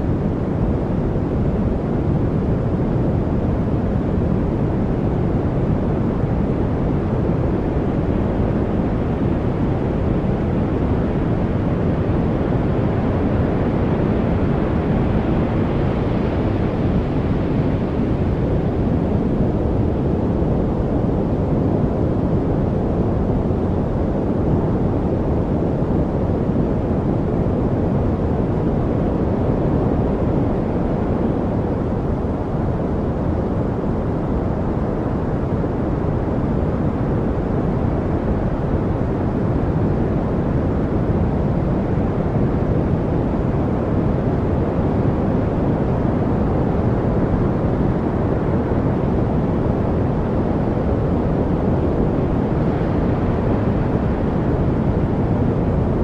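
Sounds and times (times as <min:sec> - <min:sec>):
deep rushing brown noise: 0:00.0 - 0:56.0.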